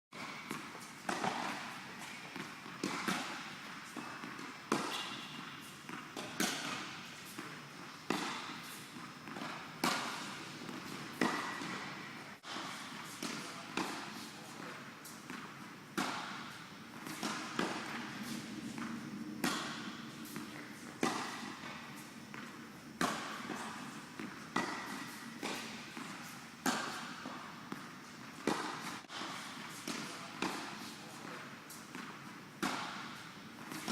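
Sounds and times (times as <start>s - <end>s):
racket hitting tennis ball: 0.2s - 33.9s
tennis ball bouncing: 0.2s - 33.9s.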